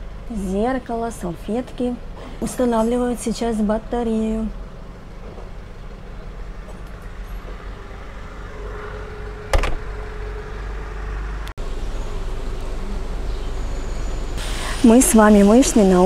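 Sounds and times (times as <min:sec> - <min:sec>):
faint engine hum: 0:00.0 - 0:16.0
low street noise: 0:00.0 - 0:16.0.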